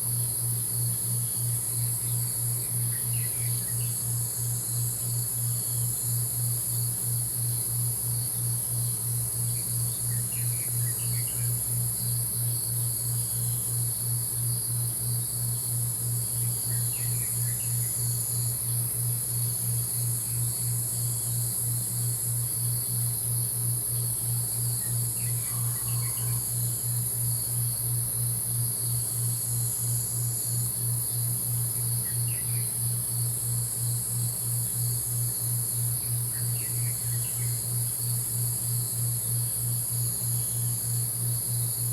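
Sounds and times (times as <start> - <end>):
crickets chirring: 0.0 - 41.9.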